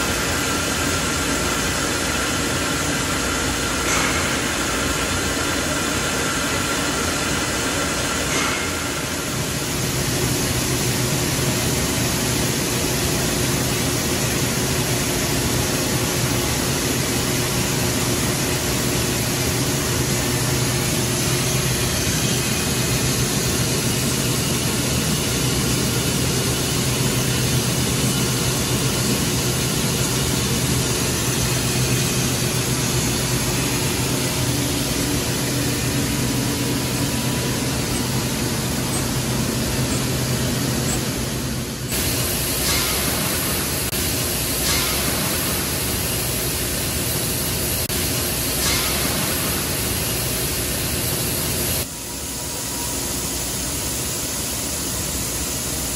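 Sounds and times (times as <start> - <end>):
industrial machine drone and hiss: 0.0 - 55.9.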